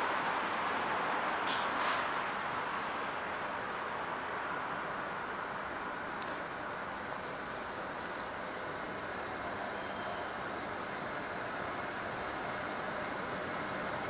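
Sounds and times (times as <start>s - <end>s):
distant freight train rumble: 0.0s - 14.0s.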